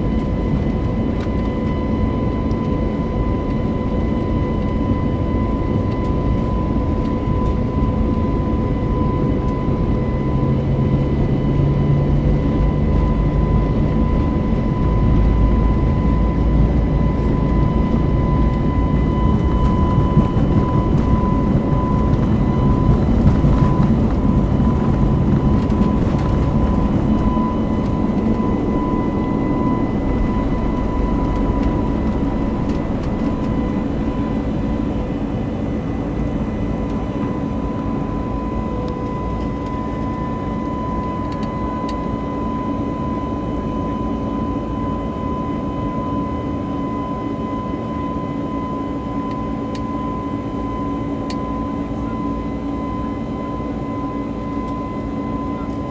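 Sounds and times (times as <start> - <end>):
jet engine cabin rush and whine: 0.0 - 55.9.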